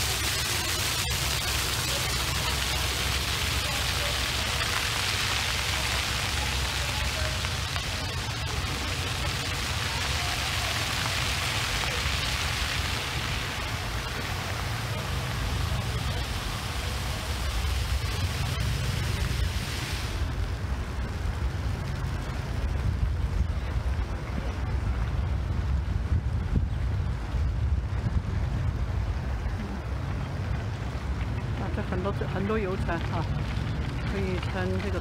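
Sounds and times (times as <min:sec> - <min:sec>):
wind noise on microphone: 0:05.5 - 0:35.0.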